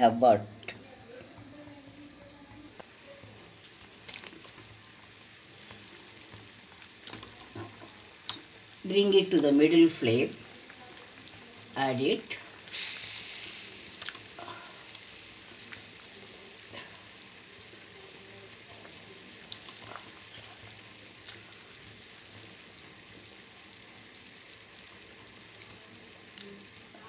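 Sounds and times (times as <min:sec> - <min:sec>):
curry boiling with sizzling hiss: 0:00.0 - 0:27.0.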